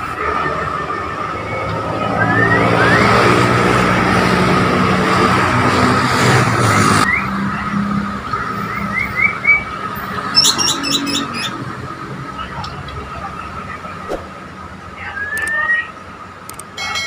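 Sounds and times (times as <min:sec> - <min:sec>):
road rumble: 0:00.0 - 0:17.0
vehicle engine hum: 0:00.0 - 0:17.0.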